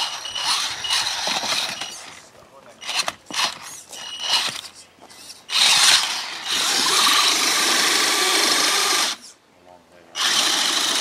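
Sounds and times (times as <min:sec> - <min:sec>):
small electric motor whirring: 0:00.0 - 0:02.1, 0:02.8 - 0:09.3, 0:10.2 - 0:11.0.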